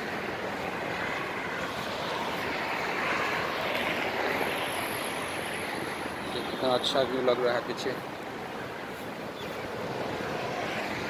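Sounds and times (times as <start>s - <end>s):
passing vehicles hiss: 0.0s - 11.0s.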